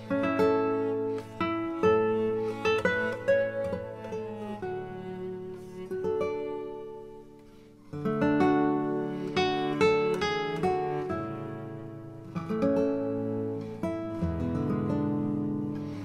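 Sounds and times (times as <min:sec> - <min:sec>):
slow plucked string music: 0:00.0 - 0:16.0.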